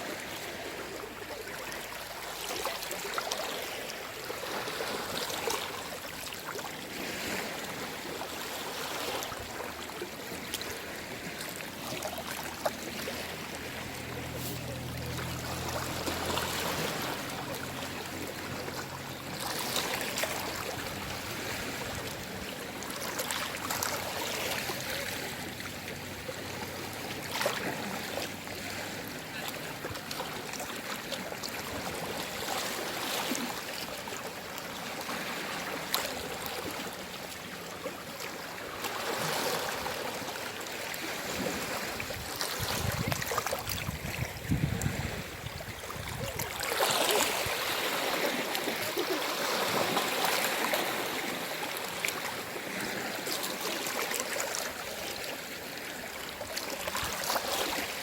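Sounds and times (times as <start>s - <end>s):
surf washing onto shore: 0.0s - 58.0s.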